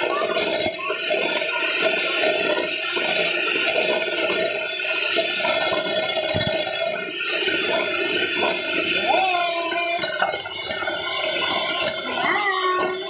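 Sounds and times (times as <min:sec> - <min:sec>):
electric hand mixer whining: 0:00.0 - 0:13.0.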